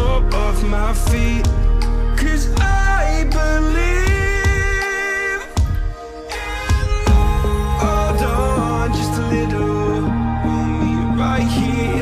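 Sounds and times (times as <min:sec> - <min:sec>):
person singing: 0:00.0 - 0:12.0
pop song with beat: 0:00.0 - 0:12.0.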